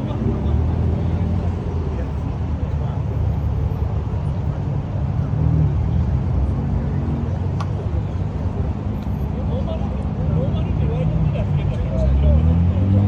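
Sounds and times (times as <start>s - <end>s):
car engines and traffic rumble: 0.0s - 13.0s.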